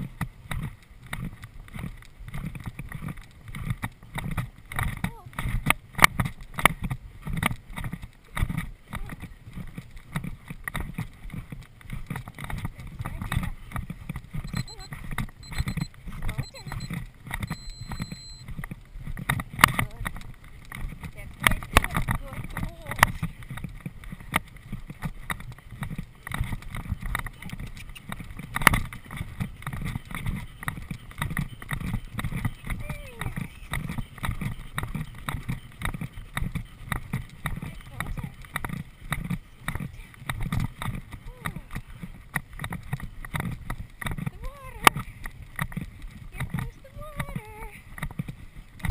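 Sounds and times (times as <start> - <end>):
horse hooves thudding on turf: 0.0 - 48.9.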